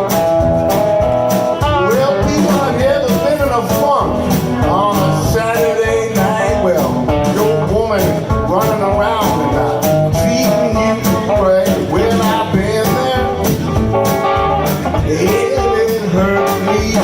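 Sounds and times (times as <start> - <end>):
blues guitar lead: 0.0 - 17.0
drums keeping steady beat: 0.0 - 17.0.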